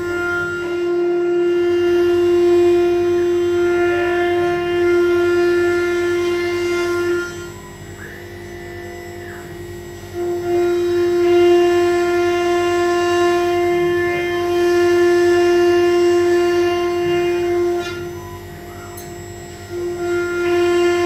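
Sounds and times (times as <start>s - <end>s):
high bending tone: 0.0s - 21.0s
musical drone: 0.0s - 21.0s.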